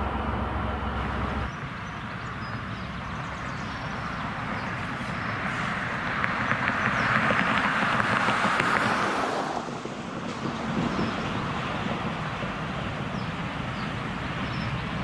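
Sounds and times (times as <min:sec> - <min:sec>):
low engine hum: 0:00.0 - 0:15.0
train rumbling on rails: 0:00.0 - 0:15.0.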